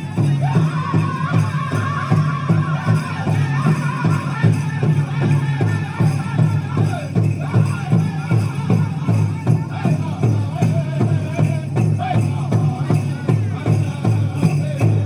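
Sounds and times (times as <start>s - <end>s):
jingle and rattle percussion: 0.0s - 15.0s
steady drumbeat: 0.0s - 15.0s
wavering voice singing: 0.0s - 15.0s.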